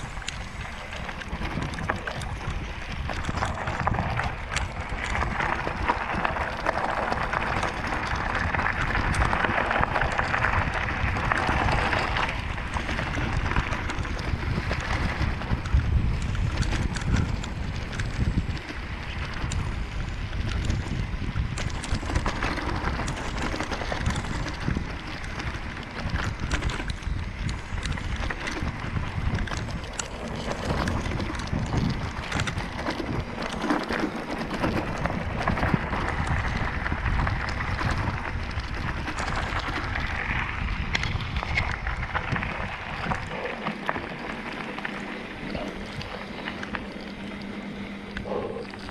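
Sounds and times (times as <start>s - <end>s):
bike and stone rattles: 0.0s - 48.9s
wind buffeting microphone: 0.0s - 48.9s.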